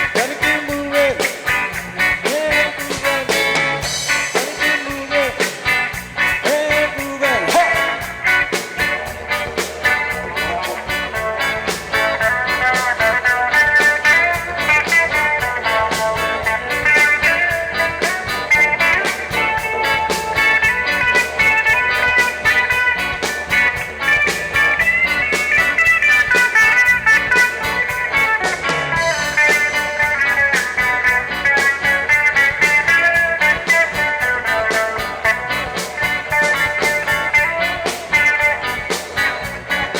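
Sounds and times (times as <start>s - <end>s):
guitar: 0.0s - 39.9s
live reggae band playing: 0.0s - 39.9s
steady drum beat: 0.0s - 39.9s.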